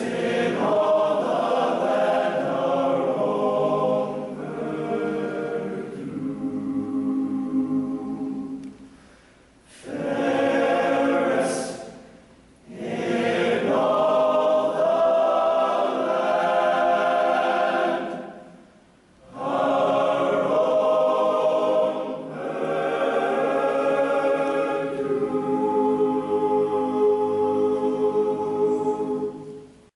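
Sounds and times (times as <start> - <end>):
choir singing in harmony: 0.0 - 8.8, 9.7 - 29.9.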